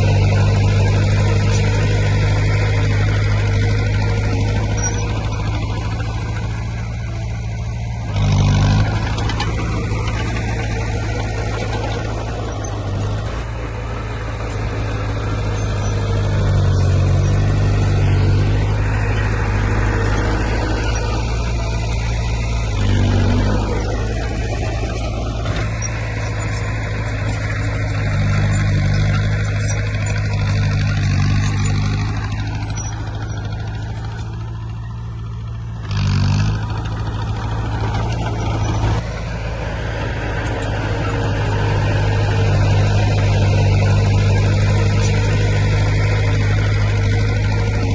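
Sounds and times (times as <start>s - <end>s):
diesel engines droning: 0.0s - 47.9s.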